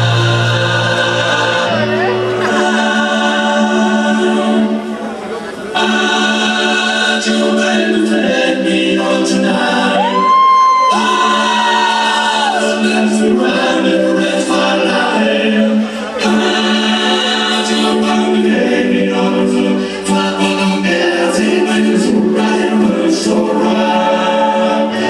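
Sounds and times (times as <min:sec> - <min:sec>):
choir-like chords: 0:00.0 - 0:25.0.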